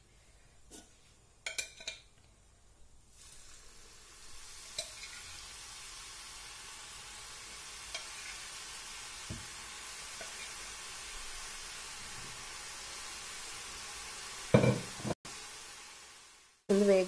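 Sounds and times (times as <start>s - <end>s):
dough deep-frying in hot oil: 0.6s - 17.0s.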